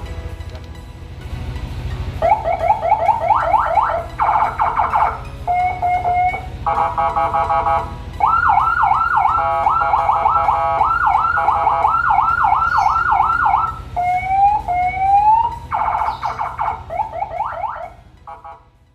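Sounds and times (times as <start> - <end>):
electronic siren cycling tones: 2.2 - 18.6.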